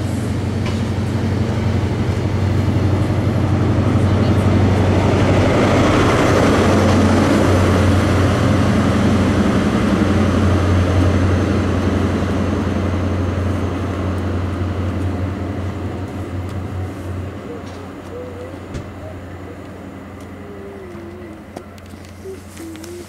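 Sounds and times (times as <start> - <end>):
train diesel engine hum: 0.0 - 23.0
wheel and rail noise: 0.0 - 23.0.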